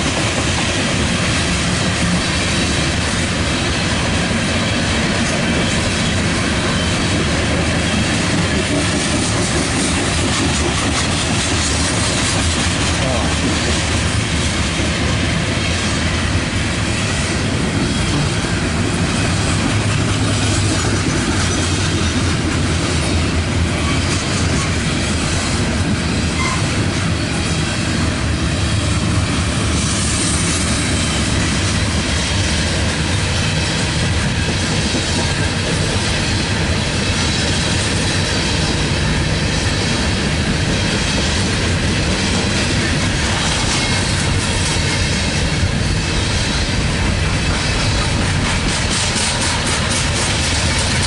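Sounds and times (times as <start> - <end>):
freight train wheels clattering: 0.0 - 51.0.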